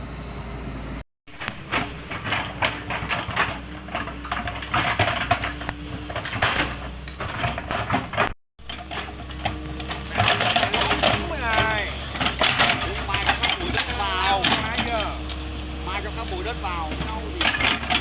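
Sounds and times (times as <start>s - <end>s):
diesel engine clatter: 0.0s - 18.0s
metallic clanking and rattling: 1.4s - 15.4s, 16.7s - 18.0s.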